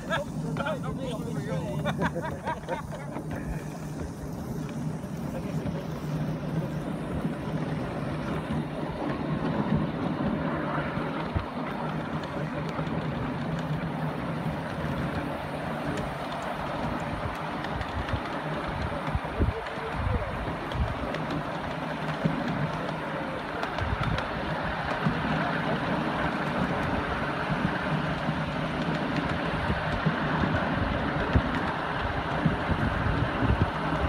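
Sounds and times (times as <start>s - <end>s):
miniature train rumbling on rails: 0.0s - 34.0s.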